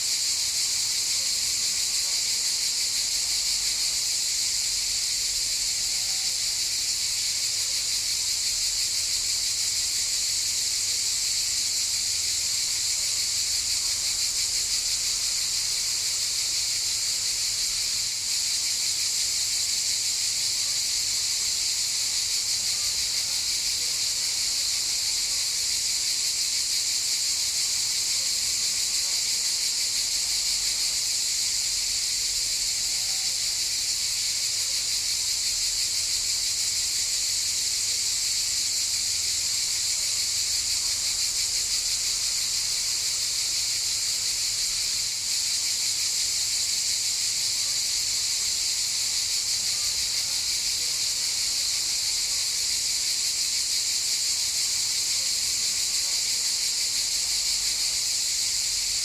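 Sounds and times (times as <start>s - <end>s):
cicadas buzzing: 0.0s - 59.0s.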